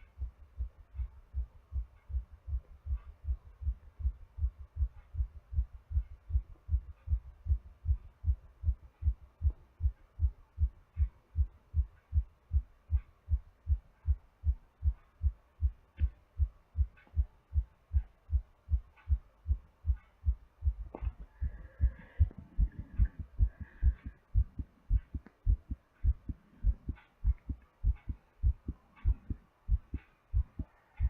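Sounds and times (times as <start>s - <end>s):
heartbeat thumps: 0.0s - 31.0s.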